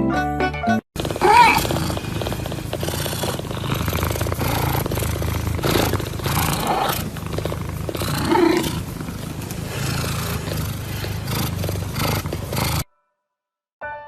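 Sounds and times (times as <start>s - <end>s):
animal low rumbling vocal sound: 1.0s - 12.8s.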